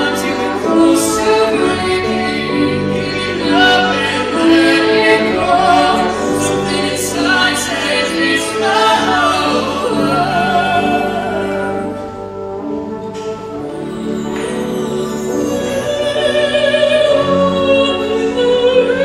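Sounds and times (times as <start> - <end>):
choir singing with accompaniment: 0.0 - 19.0
lead voices with vibrato: 0.0 - 19.0.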